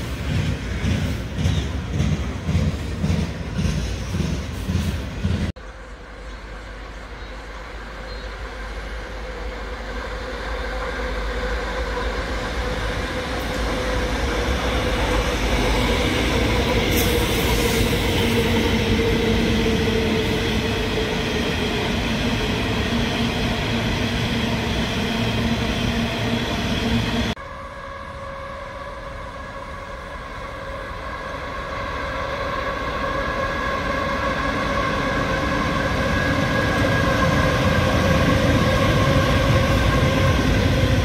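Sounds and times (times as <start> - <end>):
diesel locomotive engines: 0.0 - 41.0.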